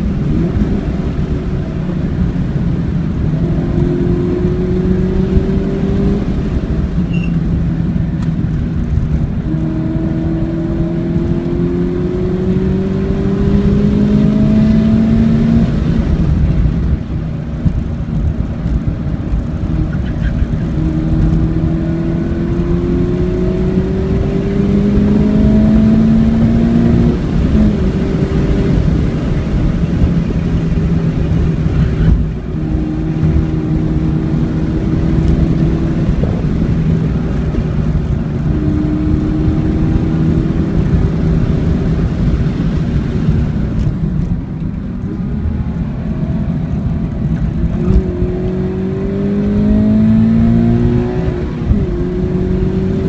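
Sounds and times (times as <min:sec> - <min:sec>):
car engine at high revs: 0:00.0 - 0:53.0
road and tyre rumble: 0:00.0 - 0:53.0.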